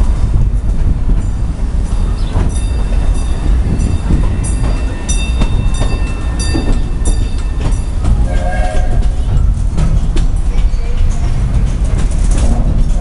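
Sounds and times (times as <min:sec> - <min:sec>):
train car rumbling on track: 0:00.0 - 0:13.0.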